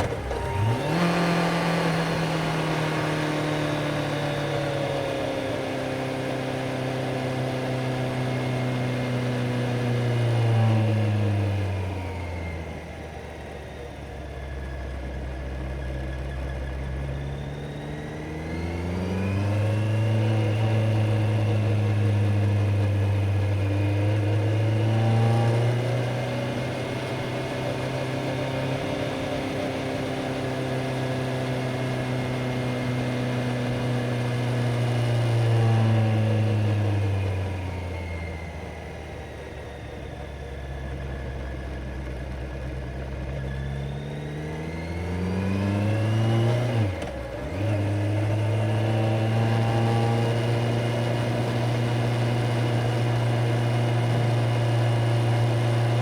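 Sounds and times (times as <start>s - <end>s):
motorcycle engine revving: 0.0s - 13.5s, 15.4s - 56.0s.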